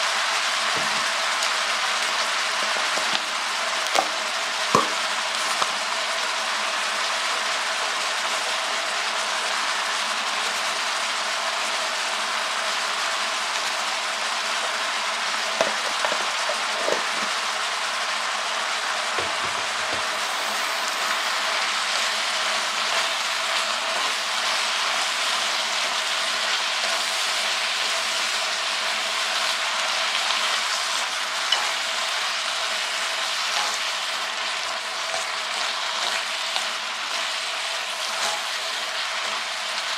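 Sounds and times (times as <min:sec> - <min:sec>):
greens sizzling in a pot: 0:00.0 - 0:39.9.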